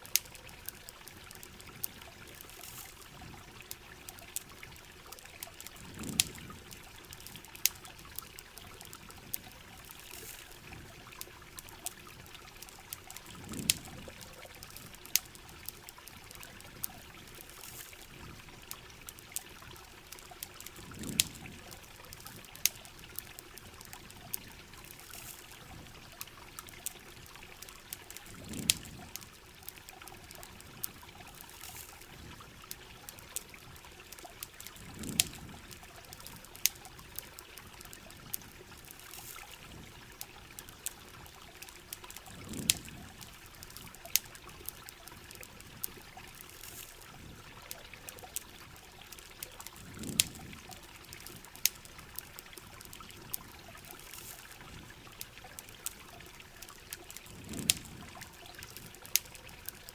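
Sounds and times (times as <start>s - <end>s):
campfire crackling: 0.0s - 59.9s
rain: 0.0s - 59.9s
trickling water: 0.0s - 59.9s.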